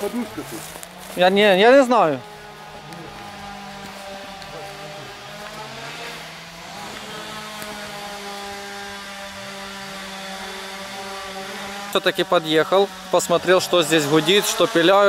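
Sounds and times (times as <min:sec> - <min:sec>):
chainsaw revving: 0:00.0 - 0:15.0
distant chainsaw humming: 0:00.0 - 0:15.0.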